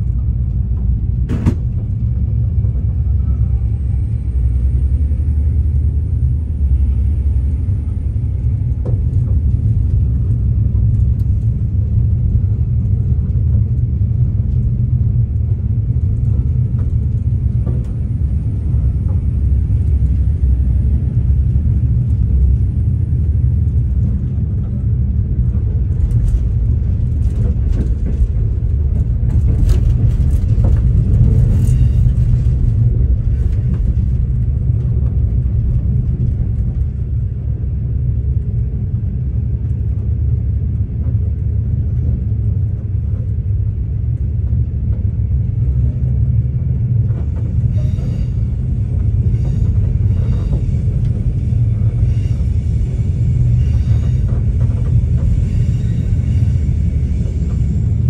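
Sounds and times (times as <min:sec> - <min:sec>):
train rumbling from inside carriage: 0:00.0 - 0:58.0.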